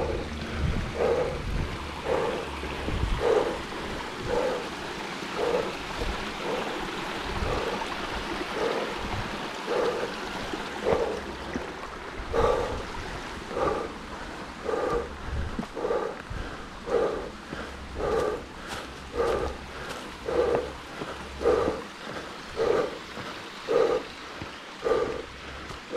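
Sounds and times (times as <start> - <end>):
person breathing hard: 0.0 - 25.9
stream rushing over rocks: 0.0 - 25.9.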